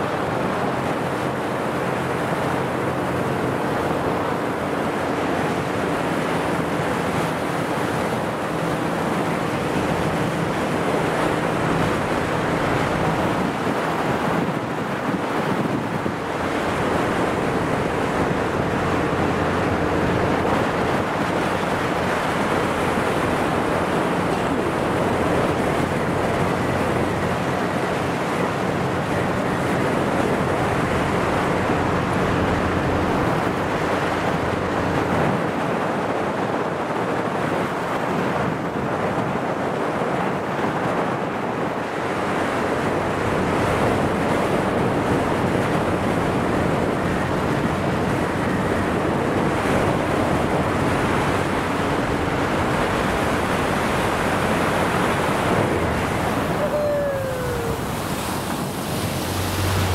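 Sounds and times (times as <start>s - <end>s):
boat engine hum: 0.0s - 59.9s
water rushing past boat: 0.0s - 59.9s
wind buffeting microphone: 0.0s - 59.9s.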